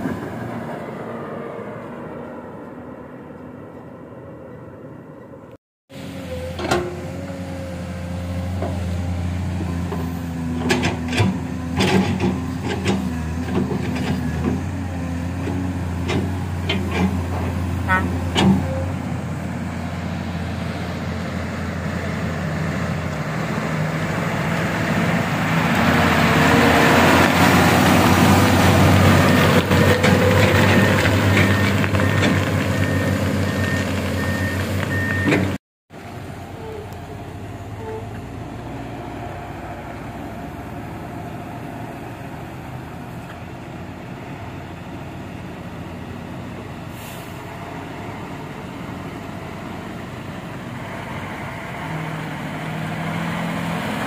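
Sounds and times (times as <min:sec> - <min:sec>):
dump truck diesel engine: 0:00.0 - 0:54.0.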